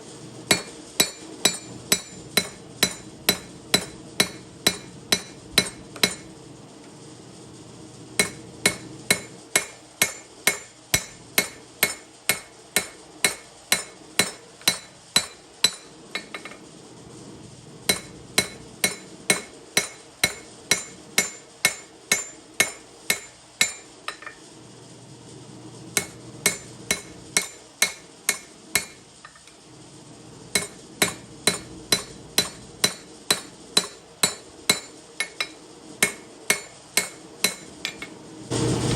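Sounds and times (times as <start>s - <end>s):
hammer striking steel on anvil: 0.5s - 6.3s, 8.2s - 16.6s, 17.9s - 24.4s, 26.0s - 29.5s, 30.5s - 38.2s.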